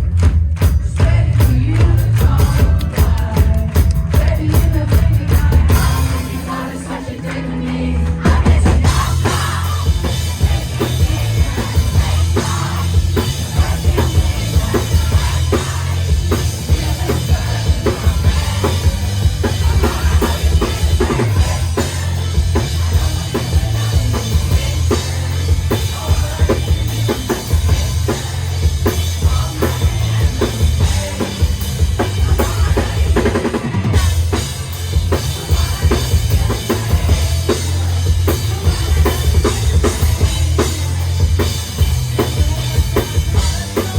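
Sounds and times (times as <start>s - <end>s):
drum kit beat: 0.0s - 43.9s
live rock band playing: 0.0s - 43.9s.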